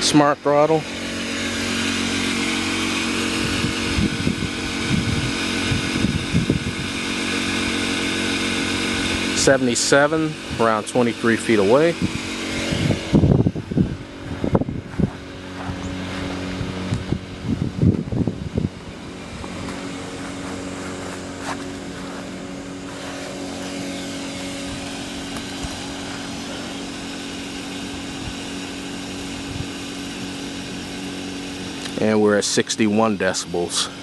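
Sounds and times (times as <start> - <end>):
generator engine hum: 0.0 - 34.0.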